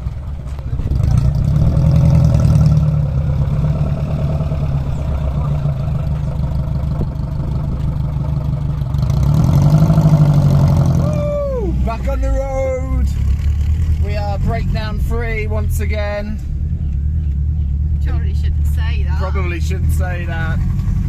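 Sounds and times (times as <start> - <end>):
van engine running and revving: 0.0 - 21.0.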